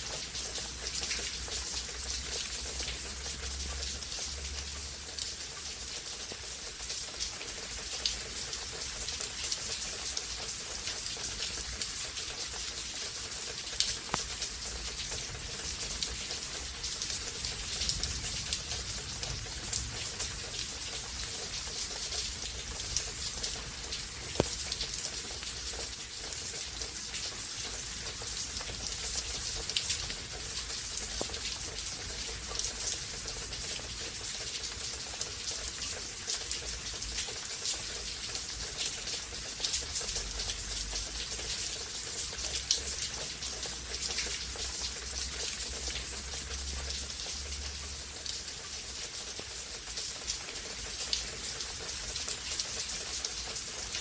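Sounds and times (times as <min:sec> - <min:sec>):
close raindrop ticks: 0:00.0 - 0:54.0
steady rain hiss: 0:00.0 - 0:54.0.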